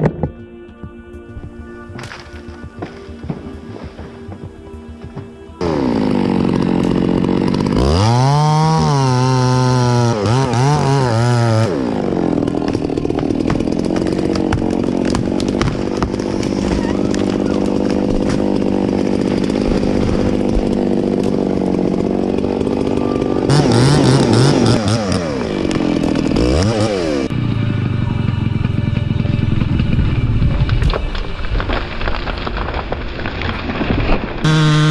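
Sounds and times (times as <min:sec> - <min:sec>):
chainsaw revving and idling: 0:01.9 - 0:30.3, 0:34.4 - 0:34.9.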